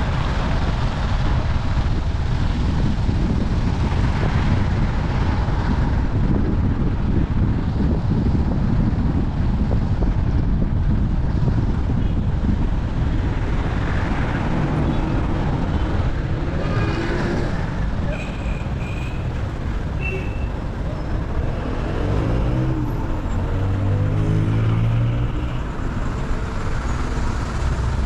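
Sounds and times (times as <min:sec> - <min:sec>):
moving vehicle rumble: 0:00.0 - 0:28.0
wind buffeting microphone: 0:00.0 - 0:28.0.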